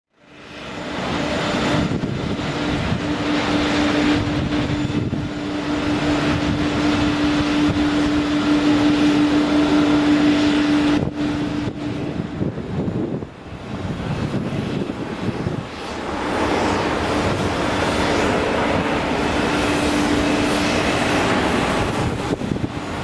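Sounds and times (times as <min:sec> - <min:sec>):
jet engine roar: 0:00.2 - 0:23.0.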